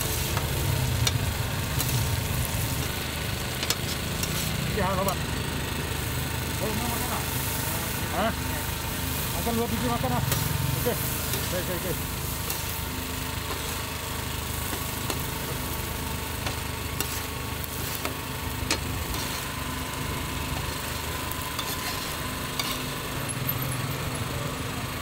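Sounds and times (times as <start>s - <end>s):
engine hum: 0.0s - 25.0s
food sizzling: 0.0s - 25.0s.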